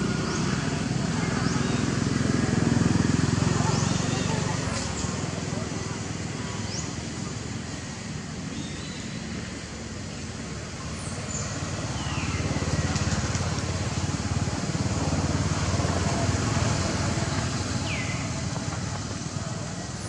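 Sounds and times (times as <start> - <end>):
passing vehicle engine rumble: 0.0 - 20.0.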